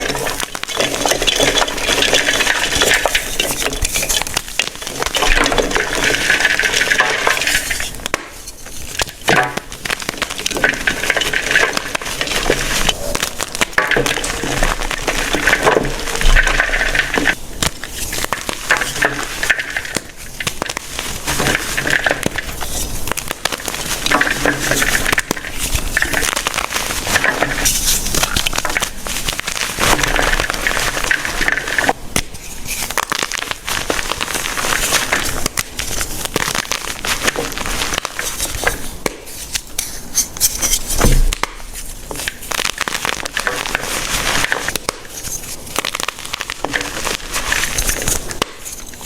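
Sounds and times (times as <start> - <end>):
chalk crumbles being crushed: 0.0 - 49.0.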